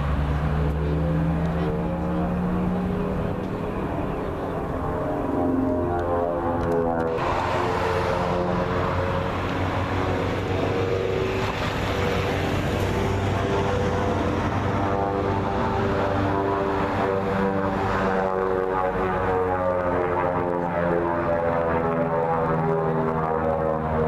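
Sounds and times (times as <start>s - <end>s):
propeller airplane engine: 0.0s - 24.0s.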